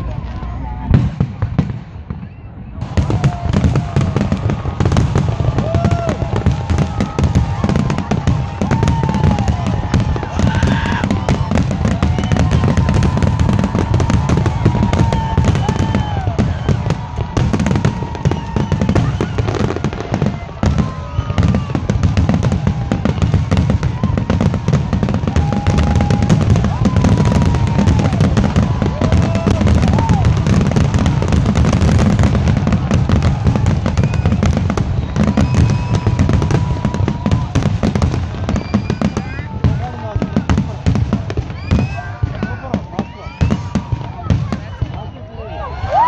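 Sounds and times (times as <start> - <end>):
fireworks booming: 0.0 - 45.2
fireworks whistles: 0.1 - 45.5.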